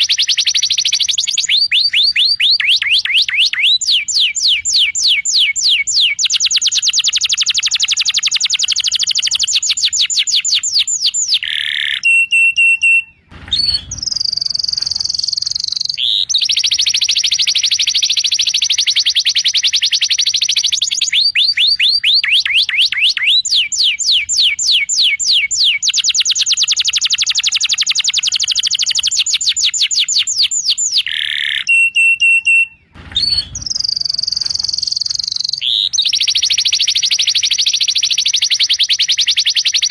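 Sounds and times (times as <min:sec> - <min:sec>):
canary trilling: 0:00.0 - 0:23.6, 0:25.4 - 0:39.9.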